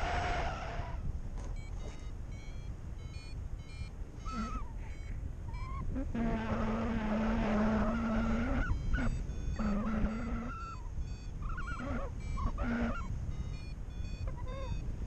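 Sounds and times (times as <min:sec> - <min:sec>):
harsh buzzing tone: 0:00.0 - 0:15.0
wind rushing over microphone: 0:00.0 - 0:15.0.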